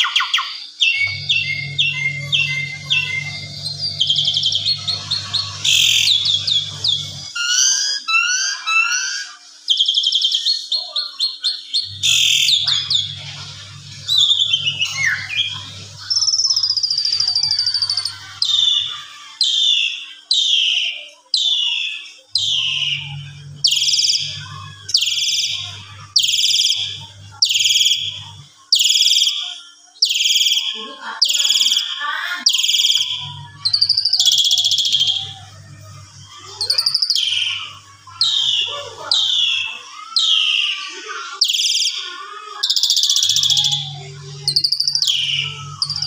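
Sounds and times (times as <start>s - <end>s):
starling singing whistles and trills: 0.0s - 46.0s.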